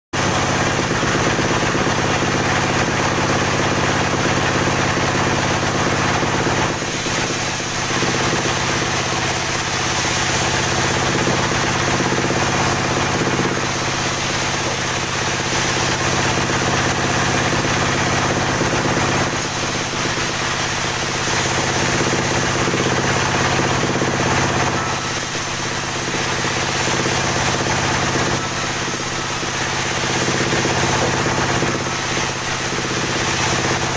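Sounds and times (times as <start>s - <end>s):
band saw cutting log: 0.2s - 33.9s.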